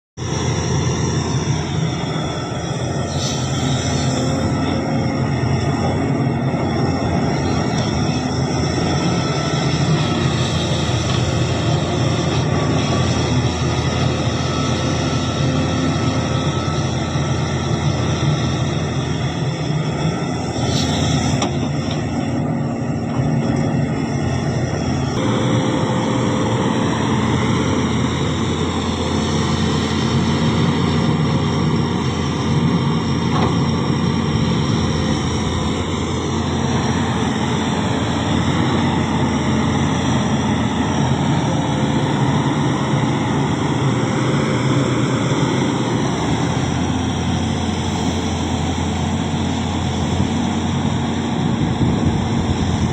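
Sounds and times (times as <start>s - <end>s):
excavator diesel engine running: 0.1s - 52.9s.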